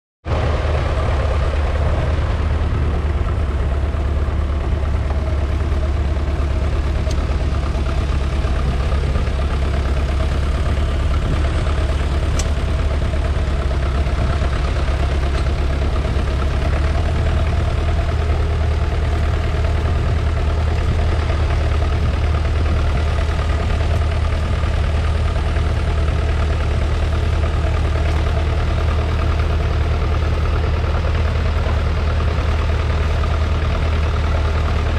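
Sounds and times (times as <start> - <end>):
diesel tractor engine running: 0.3 - 34.9.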